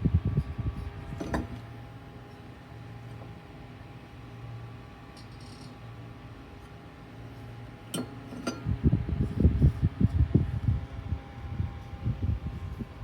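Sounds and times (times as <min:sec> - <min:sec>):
fan air buffeting microphone: 0:00.0 - 0:05.1, 0:05.8 - 0:13.0
fan humming: 0:00.0 - 0:13.0.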